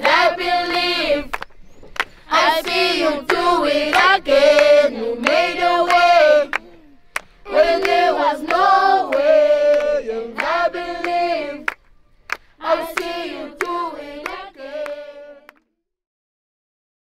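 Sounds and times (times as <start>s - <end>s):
voices singing worship song: 0.0s - 15.6s
hand claps: 0.0s - 15.7s.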